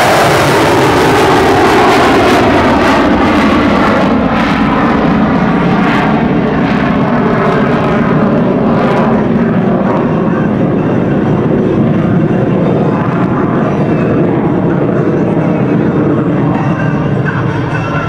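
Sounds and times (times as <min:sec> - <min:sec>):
jet engine roaring overhead: 0:00.0 - 0:18.0.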